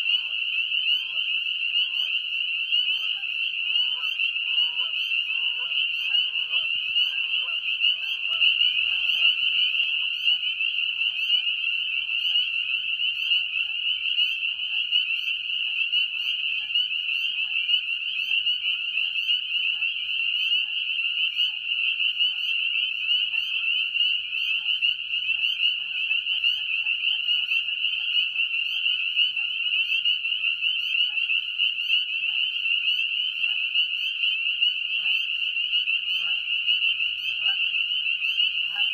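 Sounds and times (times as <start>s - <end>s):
chorus of peeping frogs: 0.0s - 38.9s
lower frog calls: 0.0s - 38.9s.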